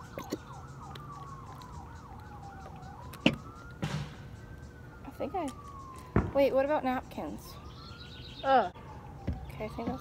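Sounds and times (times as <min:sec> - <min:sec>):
siren wailing: 0:00.0 - 0:10.0
siren yelp: 0:00.0 - 0:10.0.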